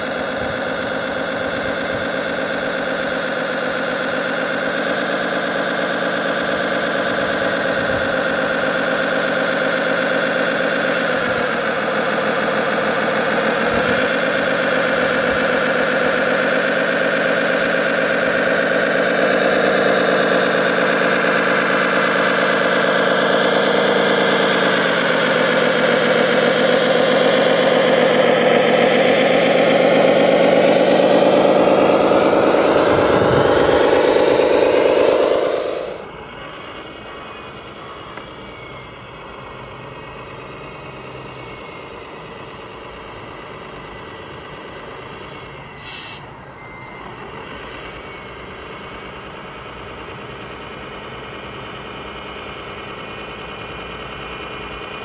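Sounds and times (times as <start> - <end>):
model tractor engine drone: 0.0 - 55.0.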